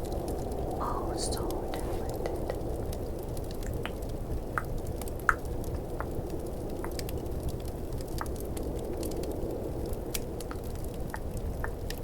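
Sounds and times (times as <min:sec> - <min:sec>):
fireplace crackles: 0:00.0 - 0:12.0
snowstorm rumble: 0:00.0 - 0:12.0.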